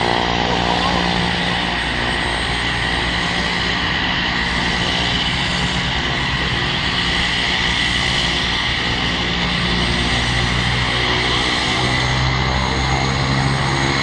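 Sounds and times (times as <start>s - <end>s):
aircraft turbine whine: 0.0s - 14.0s
low engine drone: 0.0s - 14.0s.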